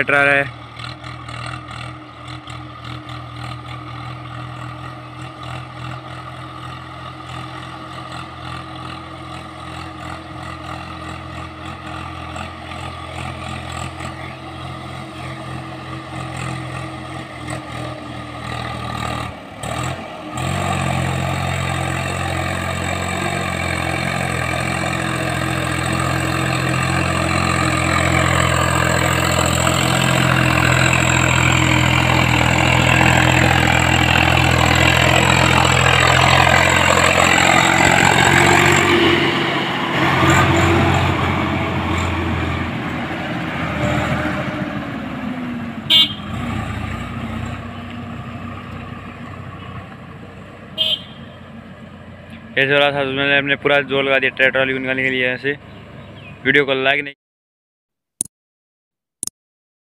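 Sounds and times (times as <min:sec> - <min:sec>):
tractor diesel engine droning: 0:00.0 - 0:56.8.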